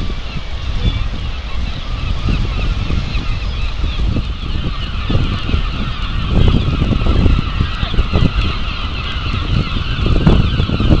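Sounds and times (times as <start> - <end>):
seagulls calling: 0.0 - 11.0
wind buffeting microphone: 0.0 - 11.0.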